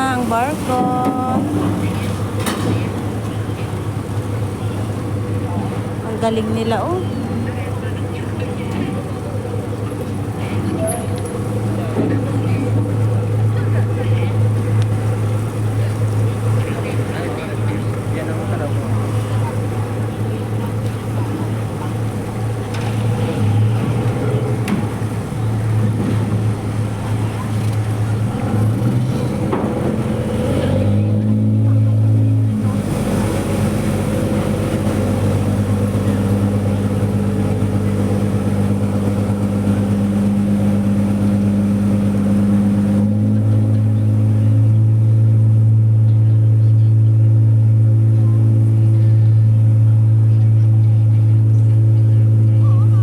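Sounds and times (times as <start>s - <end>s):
ferry engine droning: 0.0s - 53.0s.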